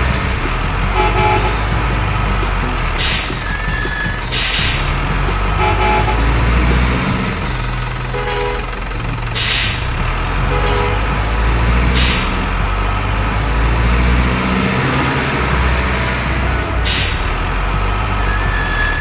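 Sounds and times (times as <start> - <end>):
diesel truck engine rumble: 0.0 - 19.0.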